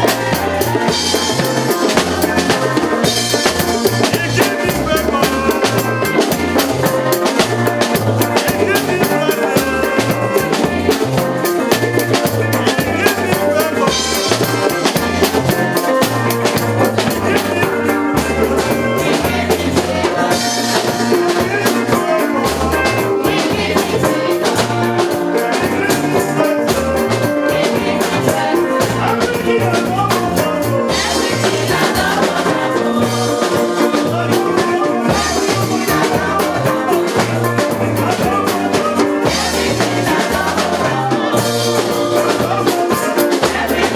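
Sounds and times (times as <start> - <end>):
bass line: 0.0 - 43.9
drum kit beat: 0.0 - 43.9.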